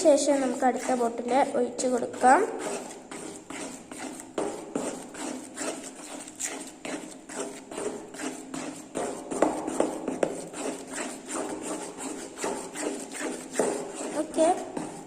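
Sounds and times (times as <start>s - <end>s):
utensil stirring sticky mix: 0.0s - 15.0s.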